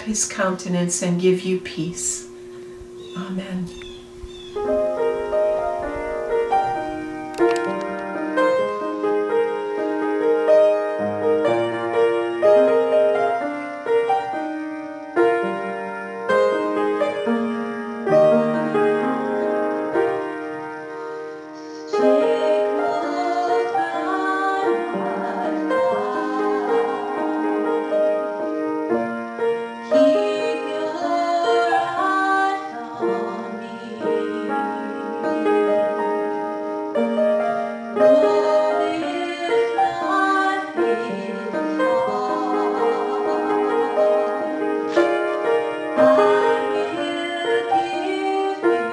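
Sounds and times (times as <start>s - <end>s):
solo piano playing slowly: 1.4s - 48.9s.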